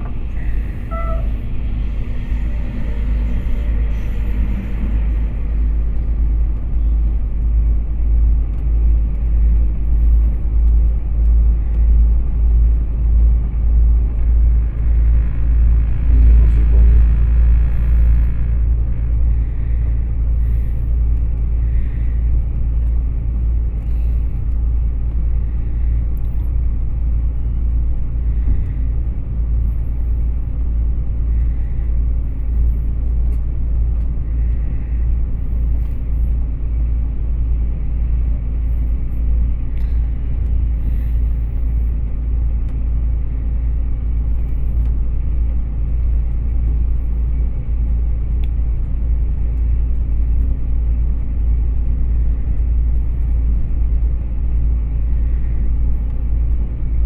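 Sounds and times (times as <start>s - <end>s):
train carriage low rumble: 0.0s - 57.0s.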